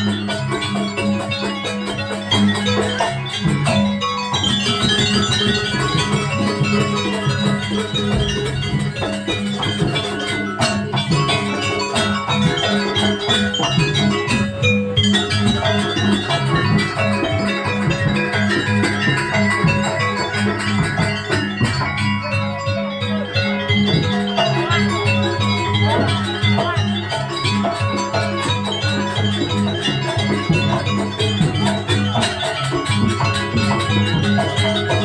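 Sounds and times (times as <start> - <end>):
drums: 0.0 - 35.0
tuned metal percussion ringing: 0.0 - 35.0.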